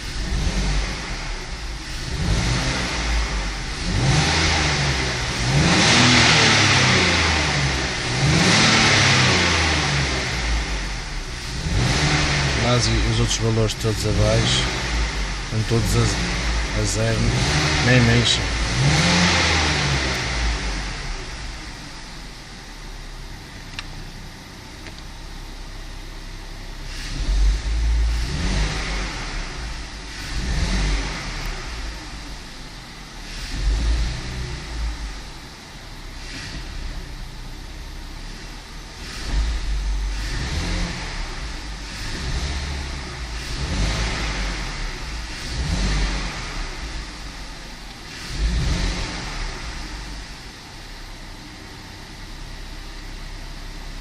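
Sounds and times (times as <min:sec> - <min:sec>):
car engine idling: 0:00.0 - 0:54.0
car engine revving: 0:00.0 - 0:54.0.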